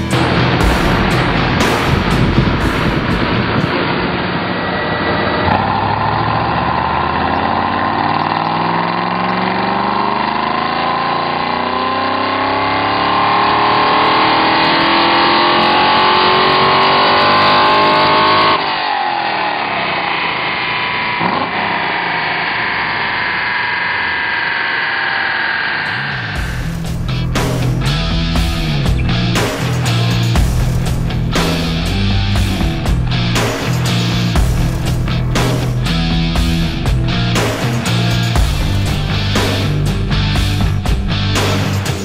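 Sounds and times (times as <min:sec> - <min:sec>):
engine coasting down: 0:00.0 - 0:18.6, 0:19.6 - 0:42.0
car engine revving: 0:00.0 - 0:42.0.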